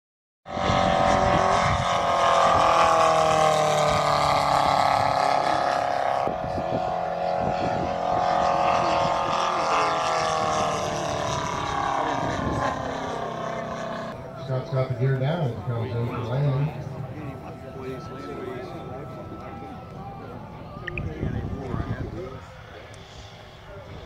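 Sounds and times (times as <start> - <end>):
model airplane motor drone: 0.5 - 14.4, 15.6 - 24.0.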